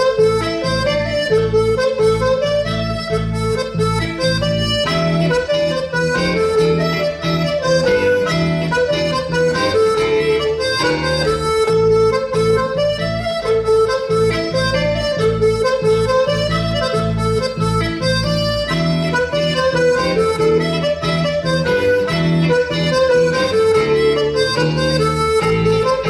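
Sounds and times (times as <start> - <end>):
accordion playing dance tune: 0.0 - 26.0.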